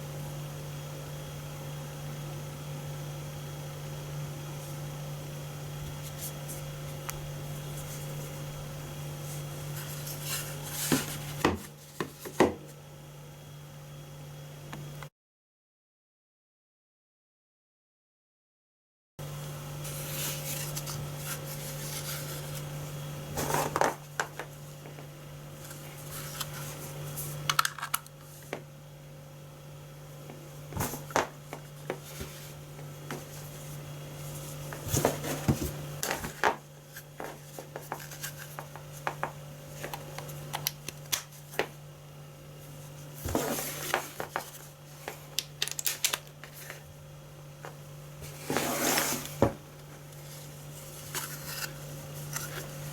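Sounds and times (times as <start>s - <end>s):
low electrical hum: 0.0s - 15.1s, 19.2s - 52.9s.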